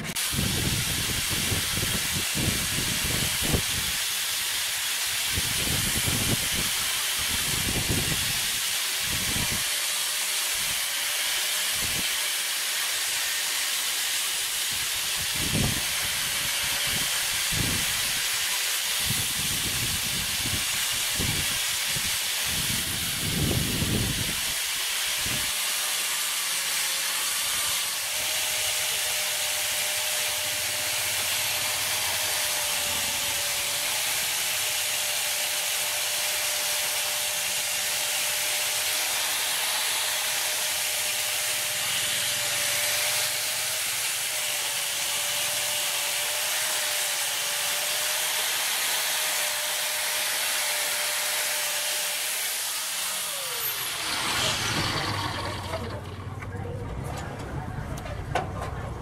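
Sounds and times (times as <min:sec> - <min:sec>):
angle grinder motor whine: 0:00.0 - 0:56.5
disc grinding steel: 0:00.0 - 0:57.6.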